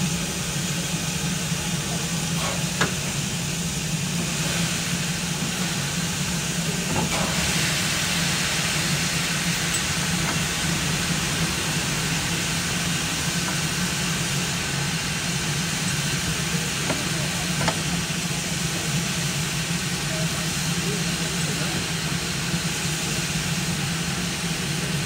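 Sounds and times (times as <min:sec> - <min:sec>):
train hiss: 0:00.0 - 0:25.0.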